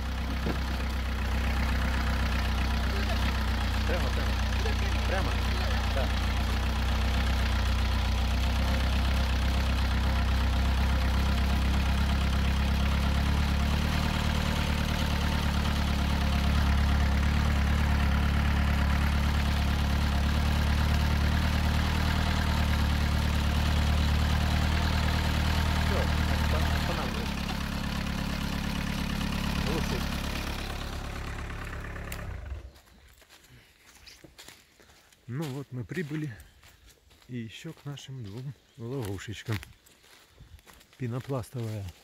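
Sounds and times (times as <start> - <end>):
off-road vehicle engine droning: 0.0 - 42.0.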